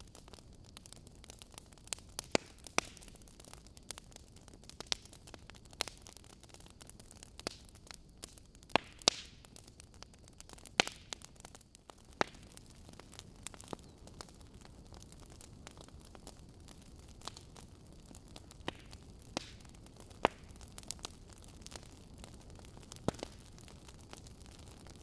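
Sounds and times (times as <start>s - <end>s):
low steady fire hiss: 0.0s - 25.0s
wood fire crackling and popping: 0.0s - 25.0s.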